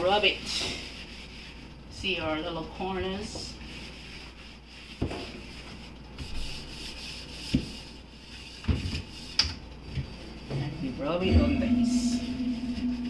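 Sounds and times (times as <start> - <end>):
hand scrubbing fridge: 0.0 - 13.0.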